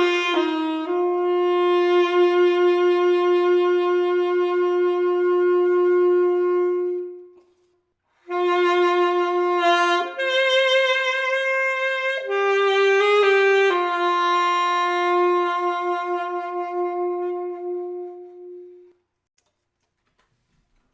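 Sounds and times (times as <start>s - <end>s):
saxophone playing sustained notes: 0.0s - 7.4s, 8.2s - 19.1s.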